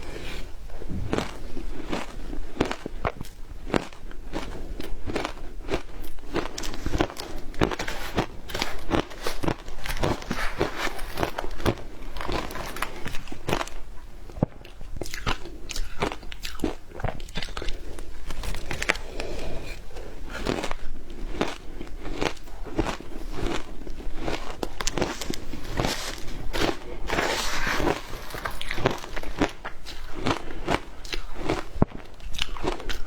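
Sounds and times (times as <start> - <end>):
ice being chewed crunching: 0.0 - 33.0.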